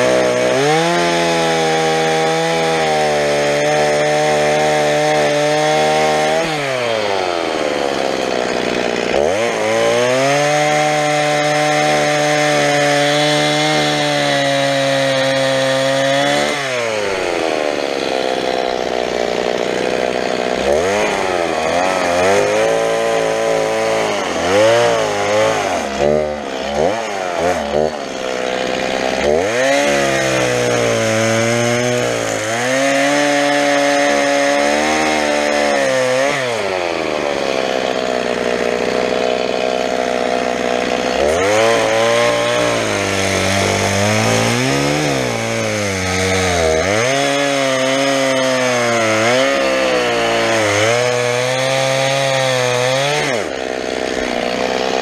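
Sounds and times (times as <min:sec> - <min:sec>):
chainsaw cutting and revving: 0:00.0 - 0:55.0.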